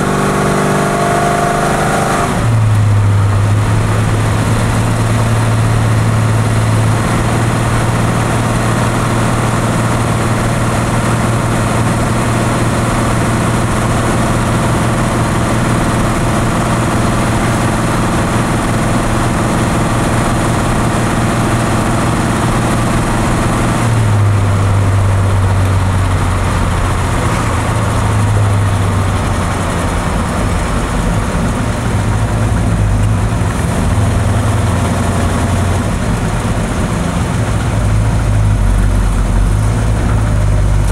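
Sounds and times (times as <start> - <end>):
car engine idling: 2.4 - 40.9.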